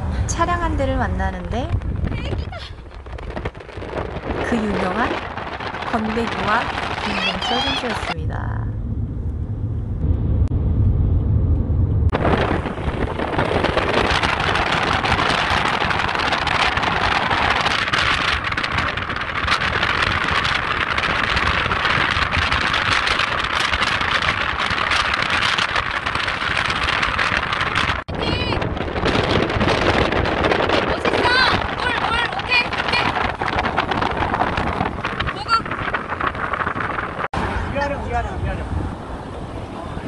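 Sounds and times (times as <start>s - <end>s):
wind rushing over microphone: 0.0s - 40.0s
car cabin rumble: 0.3s - 37.3s.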